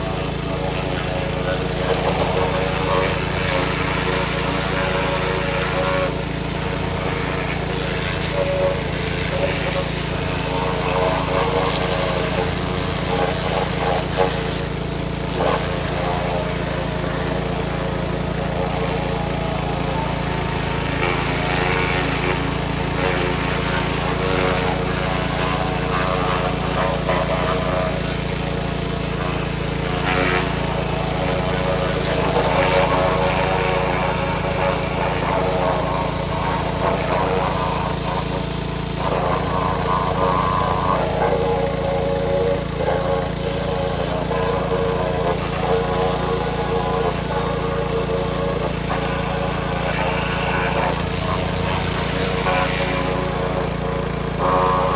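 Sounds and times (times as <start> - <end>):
power washer spraying: 0.0 - 54.9.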